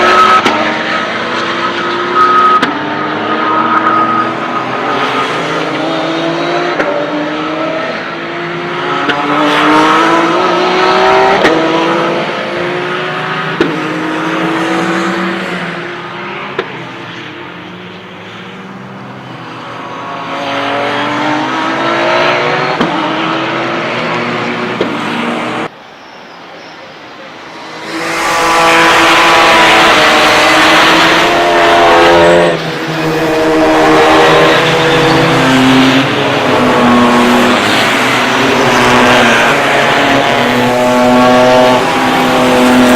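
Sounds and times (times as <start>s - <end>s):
race car engines revving past: 0.0s - 25.7s, 27.3s - 42.9s.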